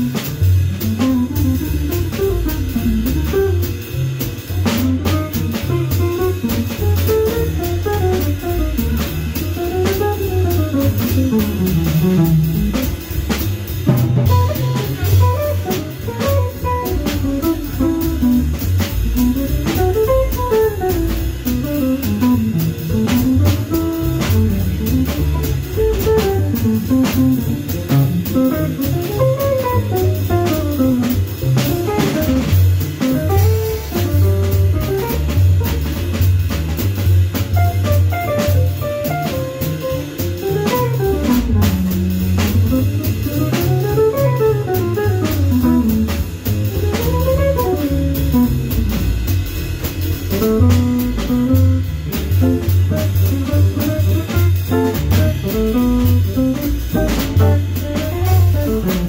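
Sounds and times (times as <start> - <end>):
double bass: 0.0 - 59.0
drum kit: 0.0 - 59.0.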